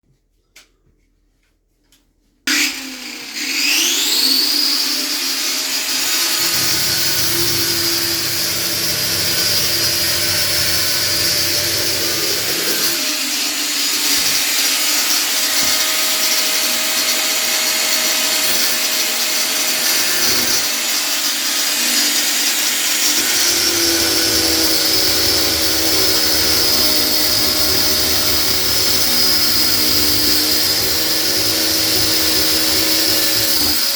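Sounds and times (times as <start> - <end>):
power tool whining: 2.5 - 33.9.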